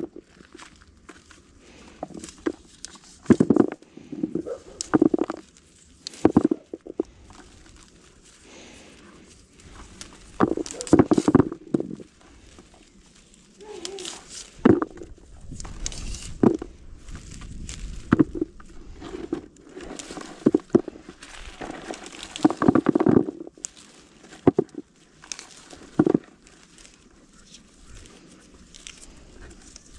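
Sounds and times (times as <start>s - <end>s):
leaves and twigs rustling: 0.0s - 29.9s.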